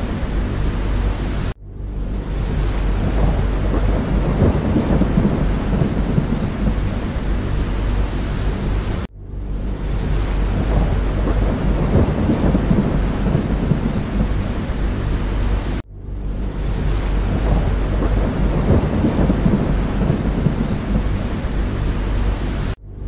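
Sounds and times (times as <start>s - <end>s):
deep low rumble: 0.0s - 23.0s
heavy rain: 0.0s - 23.0s.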